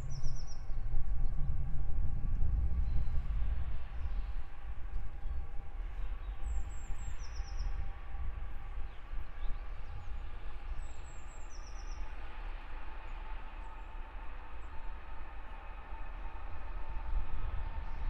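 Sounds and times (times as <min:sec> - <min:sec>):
diesel locomotive drone: 0:00.0 - 0:18.0.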